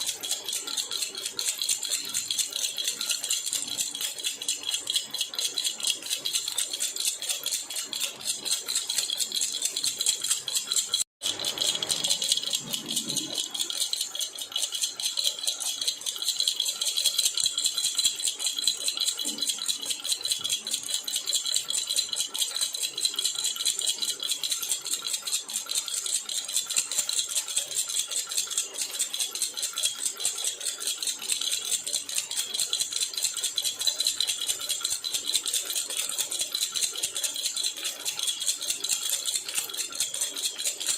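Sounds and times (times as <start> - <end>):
metal baby rattle shaken: 0.0 - 40.9.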